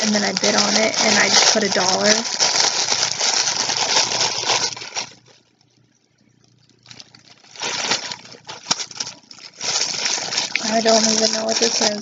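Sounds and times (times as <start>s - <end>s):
plastic mailer bag crinkling: 0.0s - 5.7s, 6.4s - 12.0s.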